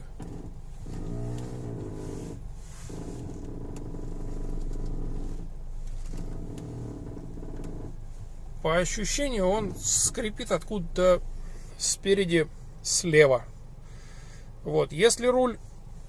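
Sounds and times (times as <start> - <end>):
steering creaking and crackling: 0.0 - 13.8
steady low hum: 0.0 - 16.0.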